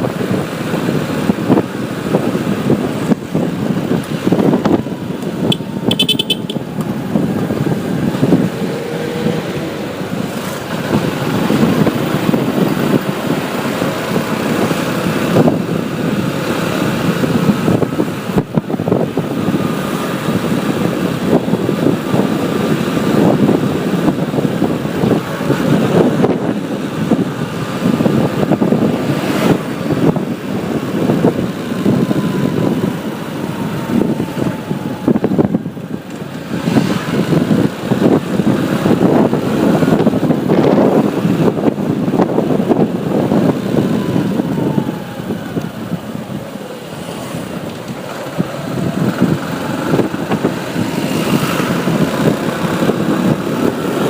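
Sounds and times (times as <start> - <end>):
motorbike engine tyre and wind noise: 0.0 - 54.0
passing vehicles: 0.0 - 54.0.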